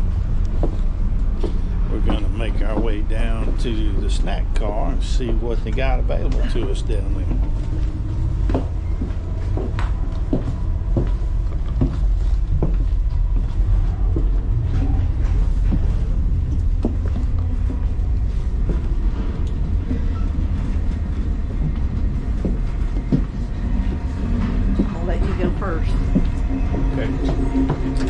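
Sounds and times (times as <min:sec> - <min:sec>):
knocks and rattles from train cars: 0:00.0 - 0:28.0
train running low rumble: 0:00.0 - 0:28.0.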